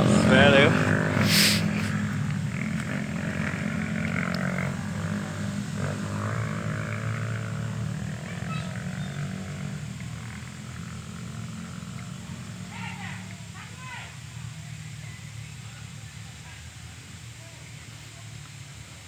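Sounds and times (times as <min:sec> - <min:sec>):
motorcycle engines passing: 0:00.0 - 0:19.0.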